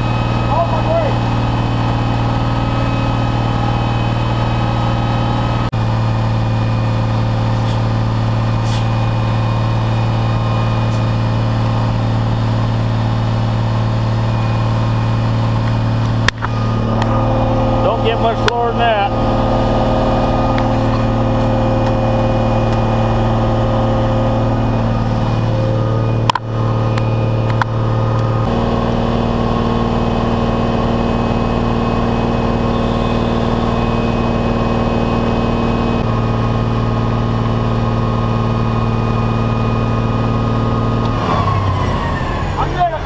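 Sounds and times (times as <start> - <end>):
diesel truck engine idling: 0.0 - 43.0.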